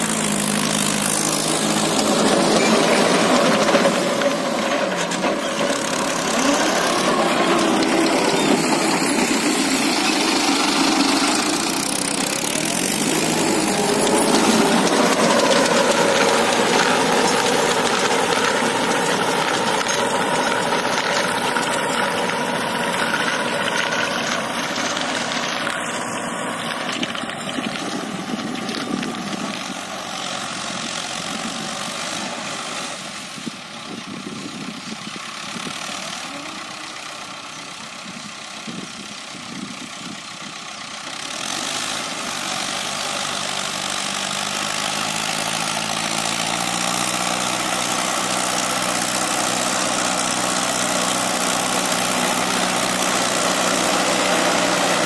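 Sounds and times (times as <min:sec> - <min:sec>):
rotary tiller in dry soil: 0:00.0 - 0:55.0
tractor diesel engine: 0:00.0 - 0:55.0.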